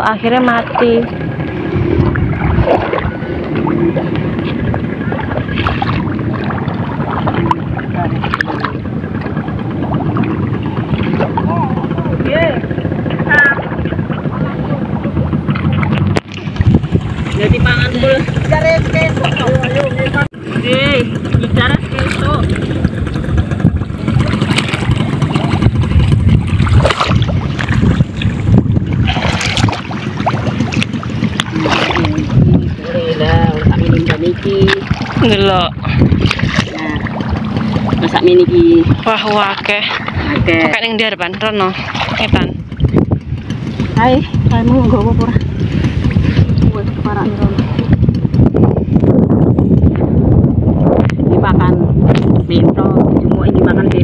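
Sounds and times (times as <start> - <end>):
wading through water and mud: 0.0 - 51.0
wind buffeting microphone: 0.0 - 54.0.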